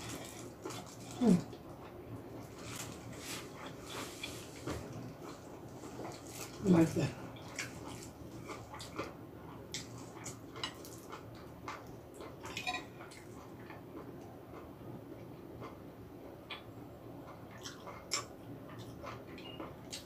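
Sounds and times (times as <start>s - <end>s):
soft chewing: 0.0s - 20.0s.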